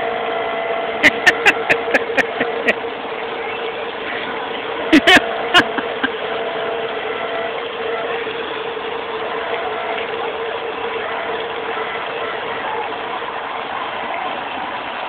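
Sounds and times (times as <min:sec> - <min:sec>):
bumper boat motors humming: 0:00.0 - 0:15.0.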